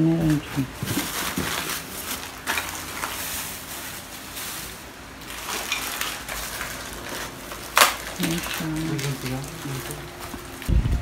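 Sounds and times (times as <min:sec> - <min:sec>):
bubble wrap crinkling: 0:00.0 - 0:10.7
cardboard box rustling: 0:00.2 - 0:10.4.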